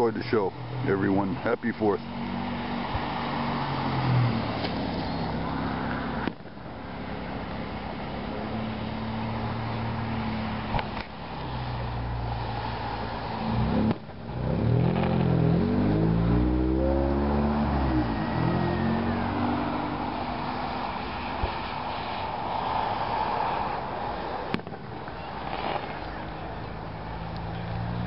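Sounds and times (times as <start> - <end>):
motor engines revving: 0.0 - 28.0.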